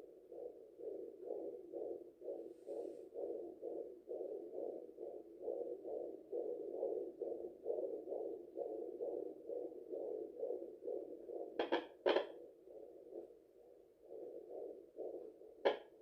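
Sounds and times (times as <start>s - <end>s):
fetal heartbeat whooshing pulses: 0.0s - 16.0s.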